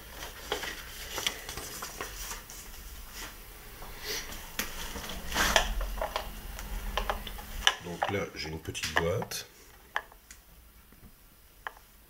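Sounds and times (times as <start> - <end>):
cardboard packaging rustling: 0.0 - 10.2.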